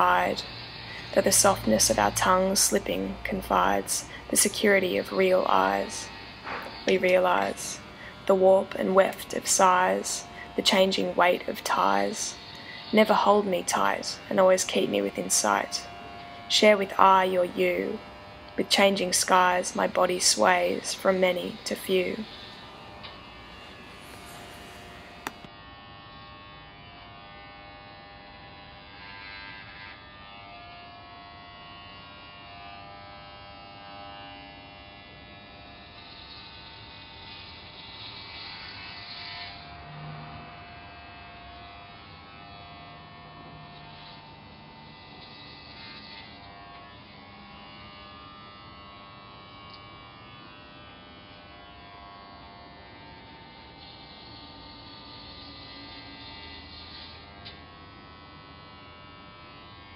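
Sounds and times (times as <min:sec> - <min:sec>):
blades hissing through hair: 0:00.0 - 0:59.9
electric hair clippers buzzing: 0:00.0 - 0:59.9.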